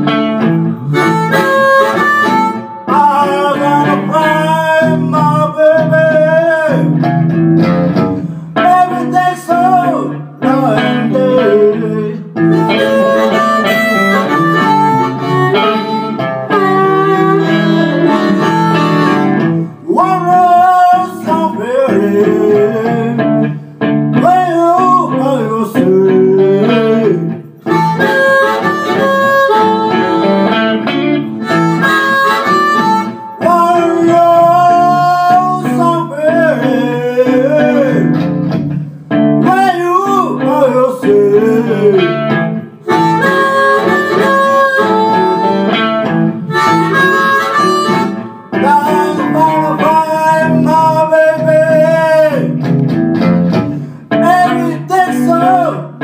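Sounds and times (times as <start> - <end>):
blues harmonica: 0.0 - 56.0
guitar accompaniment: 0.0 - 56.0.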